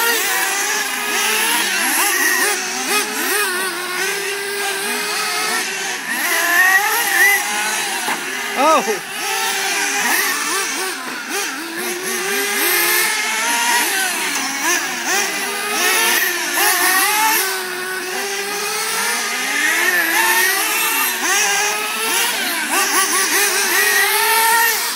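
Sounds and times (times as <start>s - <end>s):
rc car engines whining: 0.0s - 24.9s.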